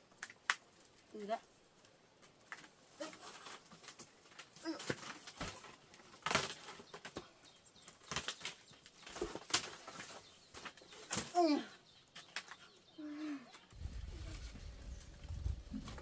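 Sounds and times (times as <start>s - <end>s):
rustling: 0.0s - 12.8s, 13.6s - 16.0s.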